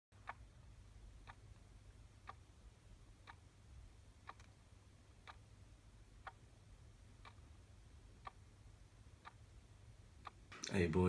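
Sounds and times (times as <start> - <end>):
alarm clock ticking: 0.2 - 11.0
low room hum: 0.2 - 11.0.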